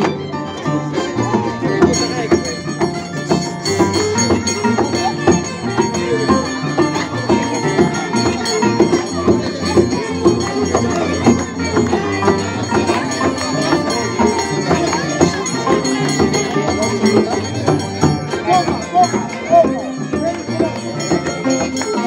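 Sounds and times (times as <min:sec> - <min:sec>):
crowd voices: 0:00.0 - 0:22.0
violin: 0:00.0 - 0:22.0.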